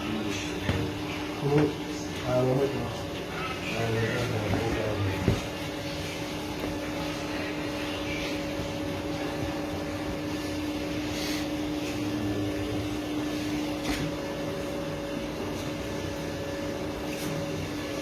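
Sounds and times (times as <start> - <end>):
machine motor hum and whir: 0.0 - 18.0.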